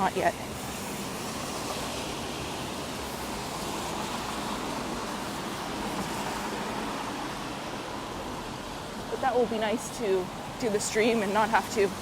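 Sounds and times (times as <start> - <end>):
light rain: 0.0 - 12.0
traffic on wet pavement: 0.0 - 12.0.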